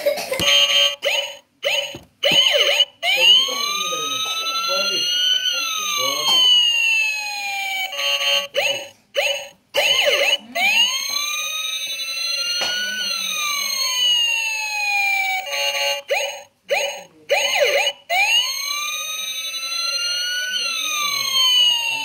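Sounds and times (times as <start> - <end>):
electronic siren-like tones: 0.4 - 22.0.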